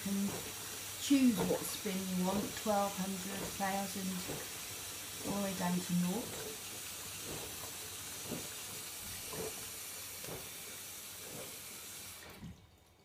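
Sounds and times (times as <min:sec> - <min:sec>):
water hissing into drum: 0:00.0 - 0:12.8.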